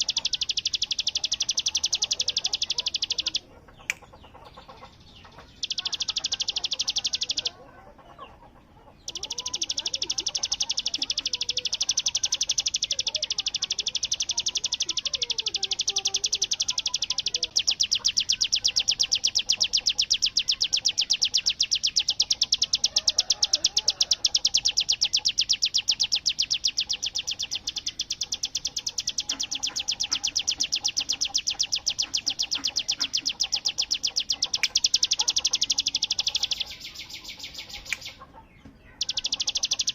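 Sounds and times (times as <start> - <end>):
bird fast trilling song: 0.0 - 39.9.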